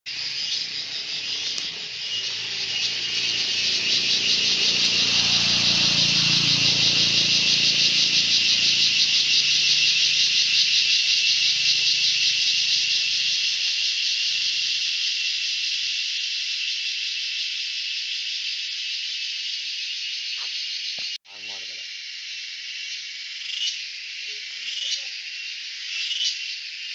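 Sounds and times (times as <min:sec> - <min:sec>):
insect chorus: 0:00.1 - 0:26.9.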